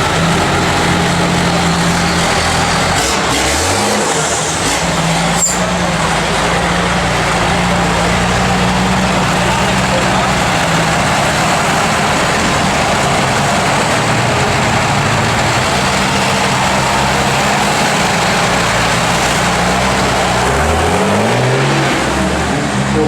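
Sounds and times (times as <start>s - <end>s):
heavy rushing noise: 0.0s - 23.0s
truck engine running loud: 0.0s - 23.0s.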